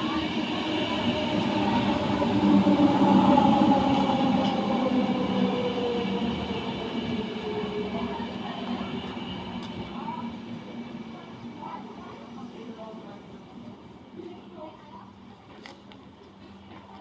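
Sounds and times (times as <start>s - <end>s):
train running on tracks: 0.0s - 17.0s.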